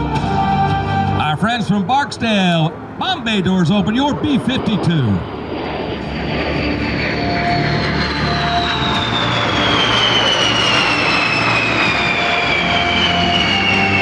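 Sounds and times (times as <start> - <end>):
jet engines fly-by: 0.0 - 14.0.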